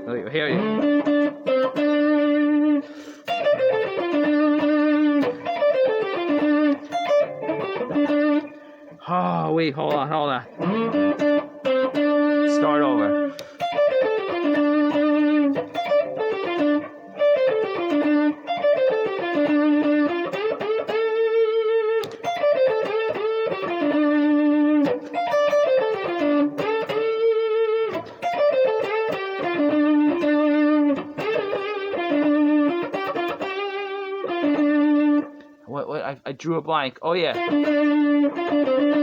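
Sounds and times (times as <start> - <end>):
electric guitar blues lead: 0.0 - 35.7, 37.0 - 39.0.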